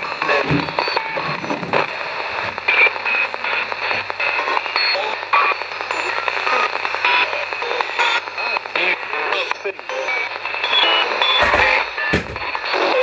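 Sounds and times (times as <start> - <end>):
chopped snatches of broadcast: 0.0 - 13.0
radio static hiss: 0.0 - 13.0.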